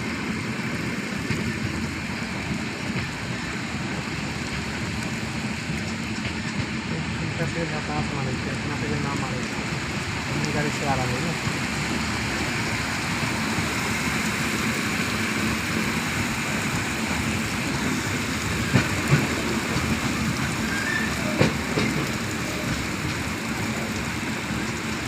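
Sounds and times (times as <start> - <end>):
rain rushing: 0.0 - 25.0
vehicle rumbling: 0.0 - 25.0.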